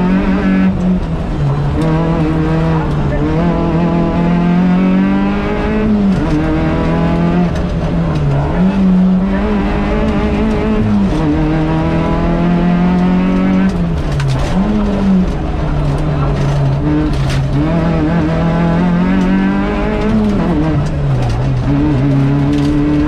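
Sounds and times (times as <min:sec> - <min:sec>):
car engine revving from inside cabin: 0:00.0 - 0:23.0.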